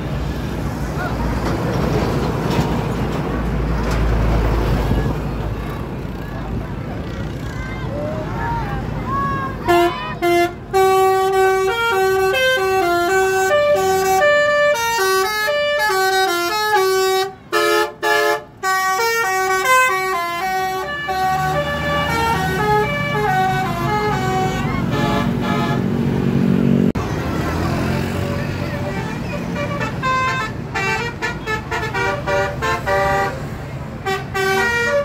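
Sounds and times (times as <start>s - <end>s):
bus engine rumble: 0.0s - 35.0s.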